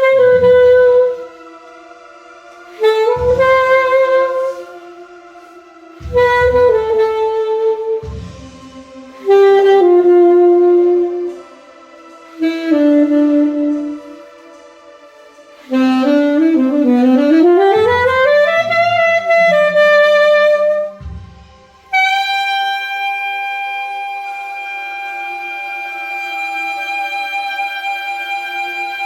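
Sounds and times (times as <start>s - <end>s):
alto saxophone playing: 0.0s - 29.0s.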